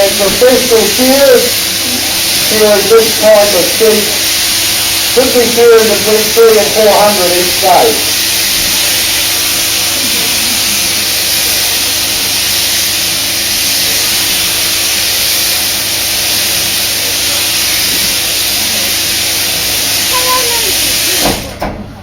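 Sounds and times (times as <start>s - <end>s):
sheep shearing handpiece humming: 0.0s - 21.8s.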